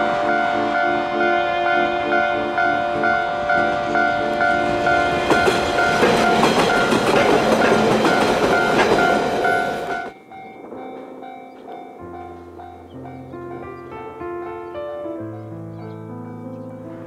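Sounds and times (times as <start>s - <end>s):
diesel railcars passing: 0.0s - 13.8s.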